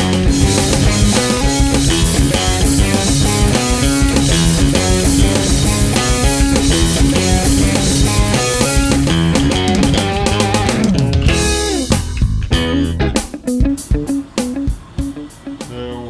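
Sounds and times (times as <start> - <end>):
rock music: 0.0 - 16.0.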